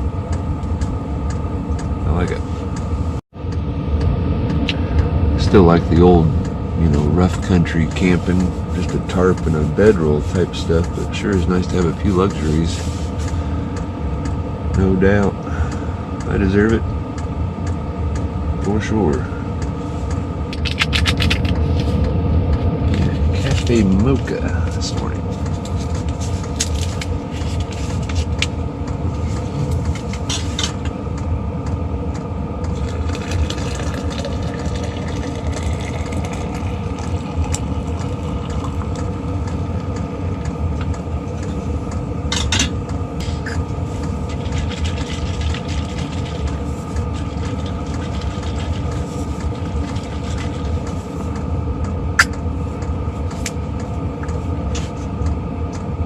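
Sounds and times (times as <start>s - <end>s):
fan hum: 0.0s - 56.0s
heater combustion rumble: 0.0s - 56.0s.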